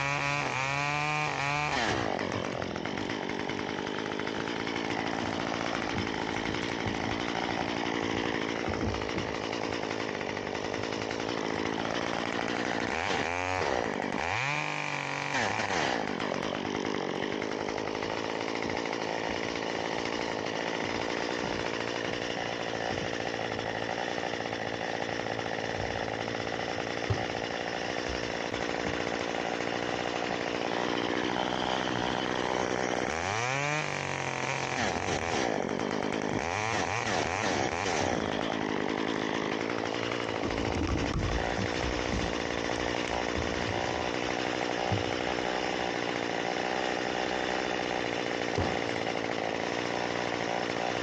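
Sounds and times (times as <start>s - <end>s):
chainsaw engine running and revving: 0.0s - 51.0s.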